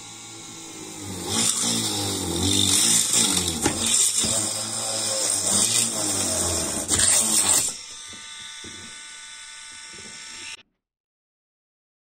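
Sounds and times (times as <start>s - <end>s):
drill-mixer motor whirring: 0.0s - 10.6s.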